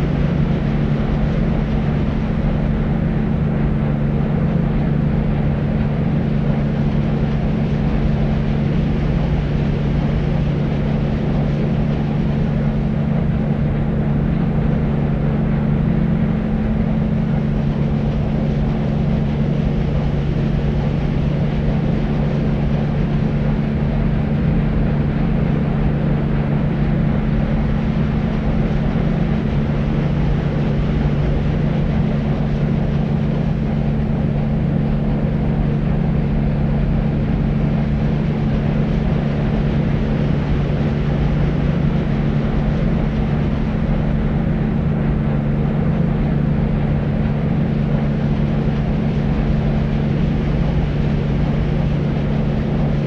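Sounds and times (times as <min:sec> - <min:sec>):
low hum: 0:00.0 - 0:53.0.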